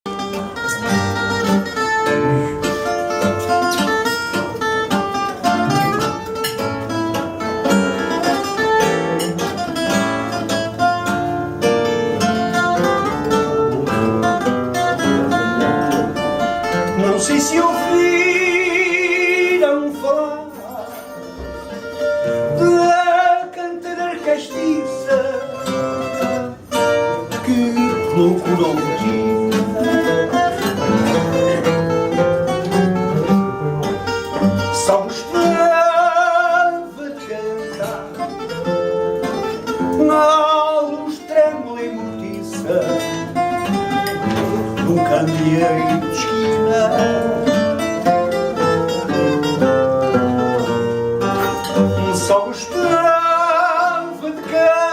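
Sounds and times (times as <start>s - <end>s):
classical guitar chords: 0.0s - 54.9s
plucked guitar melody: 0.0s - 54.9s.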